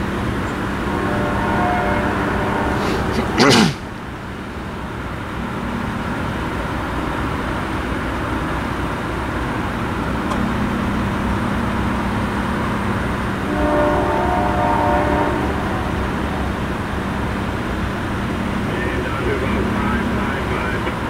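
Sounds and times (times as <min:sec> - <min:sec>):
faint low engine drone: 0:00.0 - 0:21.0
train rumble: 0:00.0 - 0:21.0.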